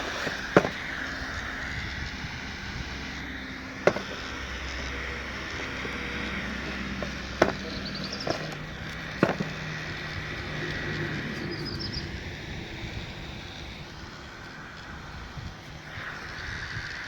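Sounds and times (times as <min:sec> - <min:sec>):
electric fan whirring: 0:00.0 - 0:17.0.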